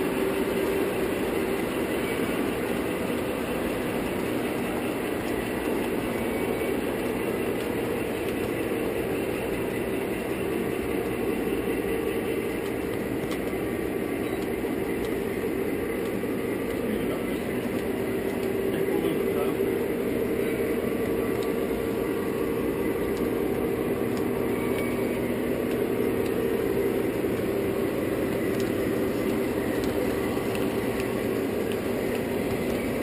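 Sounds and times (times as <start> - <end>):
faint steady hum: 0.0 - 33.0
model train wheels rolling on track: 0.0 - 33.0.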